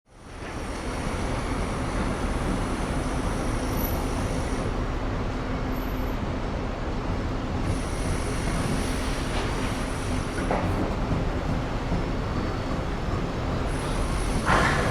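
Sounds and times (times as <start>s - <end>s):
traffic noise: 0.1s - 14.9s.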